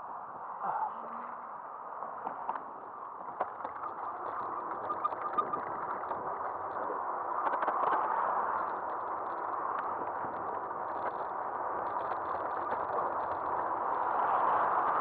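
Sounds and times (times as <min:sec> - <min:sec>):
tyre and wind noise: 0:01.7 - 0:15.0
bike clicks and rattles: 0:02.5 - 0:15.0.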